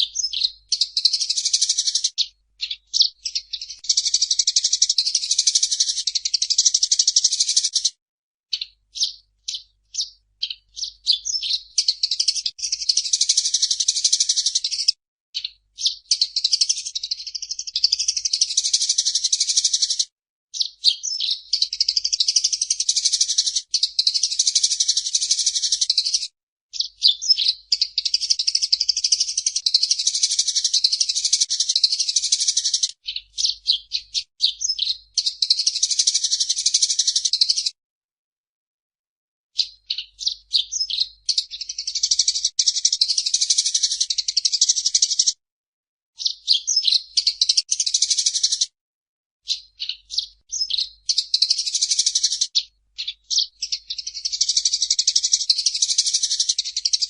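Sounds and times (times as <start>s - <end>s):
sparrow chirping: 0.0s - 7.9s, 8.5s - 37.8s, 39.6s - 45.4s, 46.2s - 48.7s, 49.4s - 57.0s.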